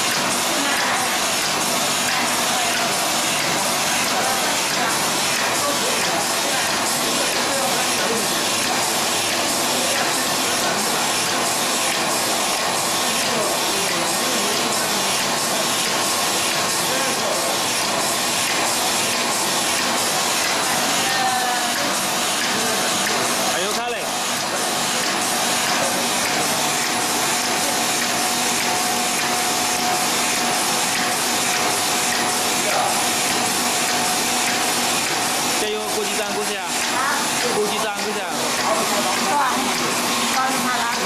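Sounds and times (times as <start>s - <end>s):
filling machine running: 0.0s - 41.0s.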